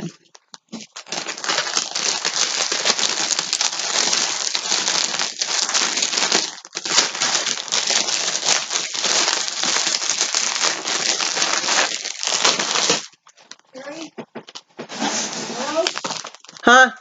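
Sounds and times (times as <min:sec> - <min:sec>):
packaging crinkling and rustling: 0:00.2 - 0:16.7.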